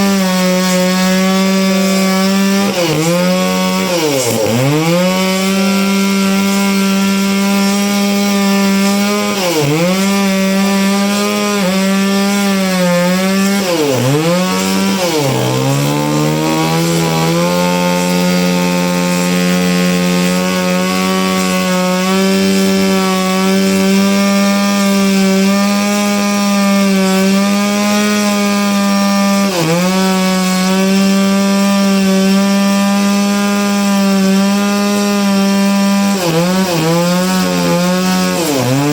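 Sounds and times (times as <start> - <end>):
sawmill saw whining: 0.0 - 38.9.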